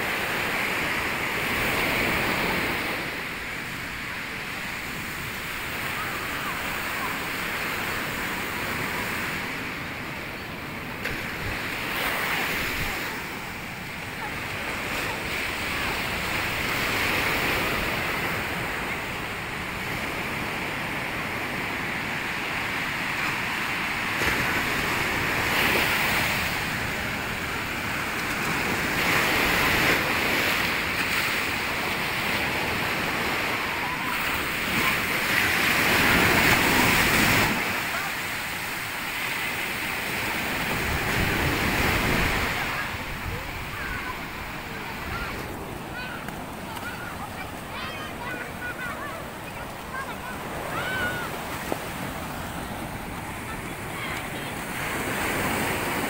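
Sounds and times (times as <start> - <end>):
surf breaking on a beach: 0.0 - 56.0.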